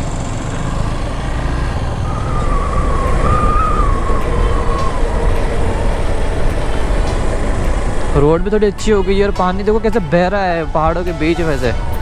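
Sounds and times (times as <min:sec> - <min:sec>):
motorcycle engine rumble: 0:00.0 - 0:12.0
wavering high-pitched tone: 0:01.7 - 0:12.0.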